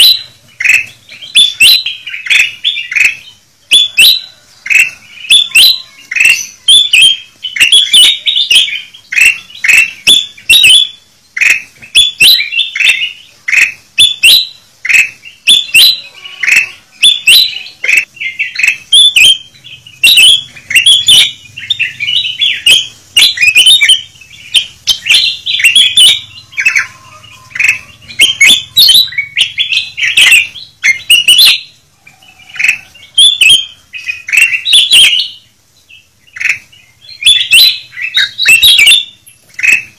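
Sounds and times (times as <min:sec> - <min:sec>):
bulbuls calling: 0:00.0 - 0:39.9.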